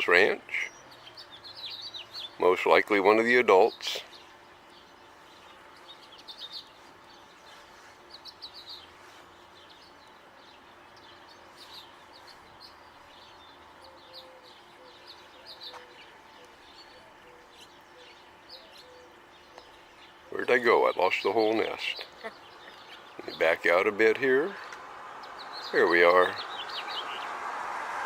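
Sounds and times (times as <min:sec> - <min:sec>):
small birds chirping: 0:00.0 - 0:27.5
faint outdoor background: 0:00.0 - 0:28.0.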